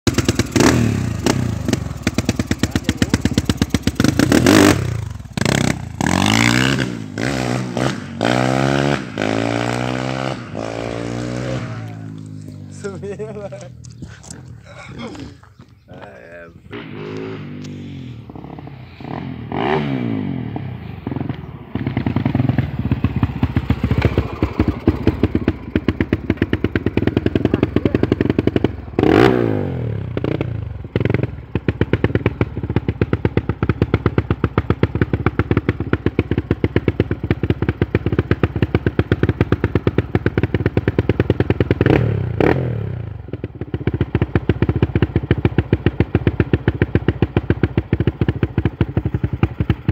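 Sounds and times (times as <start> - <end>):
motorcycle engine idling and revving: 0.0 - 49.9.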